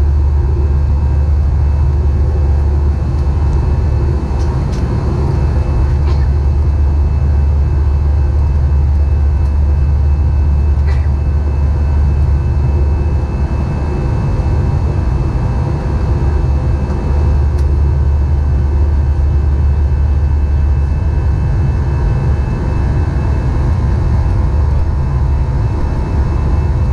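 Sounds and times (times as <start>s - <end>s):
jet engine and airflow rumble: 0.0s - 26.9s.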